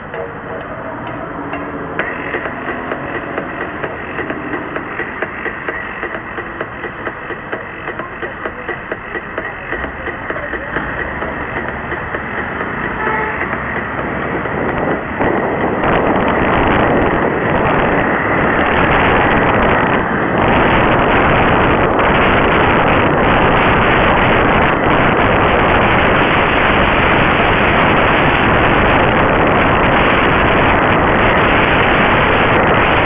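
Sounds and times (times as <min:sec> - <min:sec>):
road noise: 0:00.0 - 0:33.0
wind rushing over microphone: 0:00.0 - 0:33.0.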